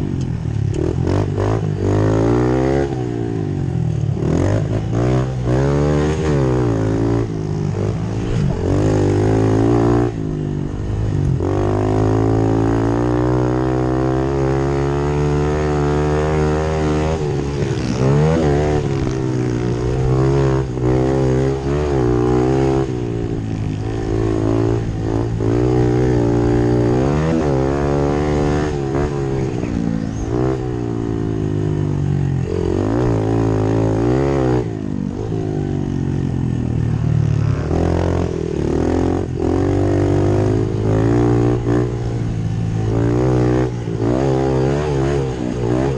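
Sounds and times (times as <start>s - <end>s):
pit bike engines revving: 0.0s - 45.9s.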